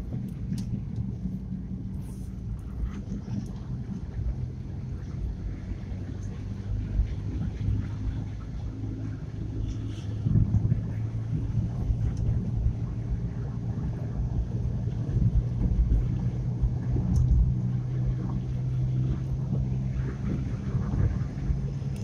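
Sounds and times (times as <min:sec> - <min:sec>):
car engine running: 0:00.0 - 0:22.0
road and tyre rumble: 0:00.0 - 0:22.0.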